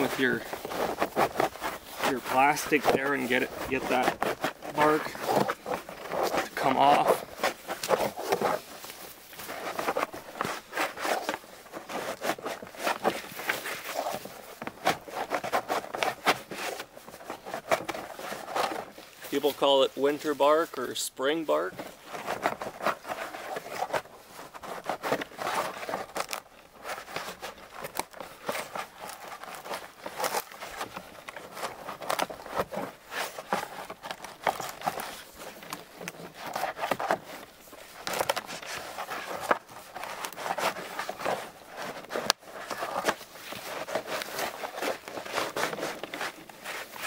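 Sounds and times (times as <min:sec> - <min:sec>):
bark scraping and tearing: 0:00.0 - 0:20.3, 0:21.3 - 0:47.0.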